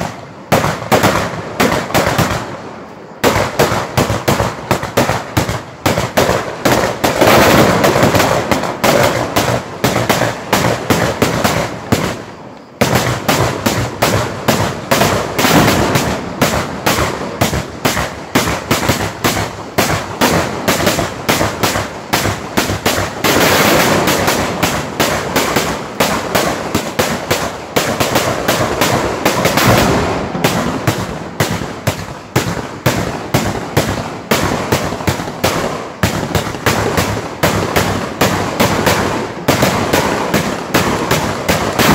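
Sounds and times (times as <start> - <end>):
rapid chain of loud bangs: 3.2 - 12.2, 12.8 - 41.9.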